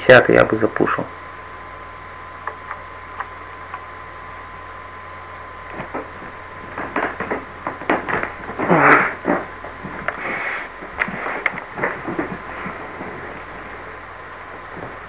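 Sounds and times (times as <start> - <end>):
microphone hiss: 0.0 - 15.0.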